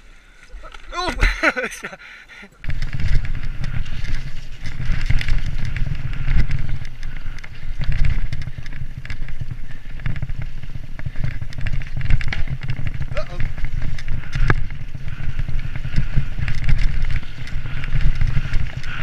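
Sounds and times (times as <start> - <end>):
bike tyres rolling over dirt: 0.0 - 19.0
bike clattering and rattling: 0.5 - 2.0, 2.6 - 19.0
wind rumble on microphone: 2.6 - 19.0.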